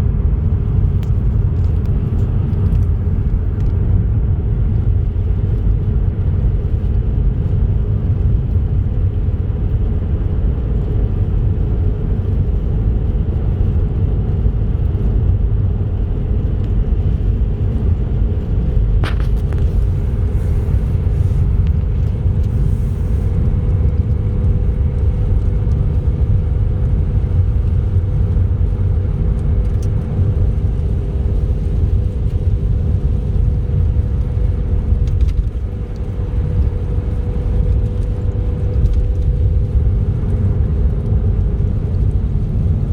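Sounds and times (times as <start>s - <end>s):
car tyre and engine rumble: 0.0s - 42.9s.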